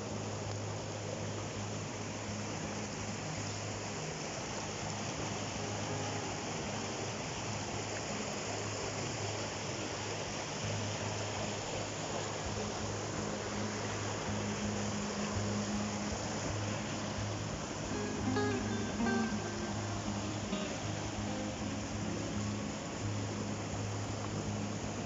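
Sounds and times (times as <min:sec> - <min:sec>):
stream rushing over boulders: 0:00.0 - 0:25.0.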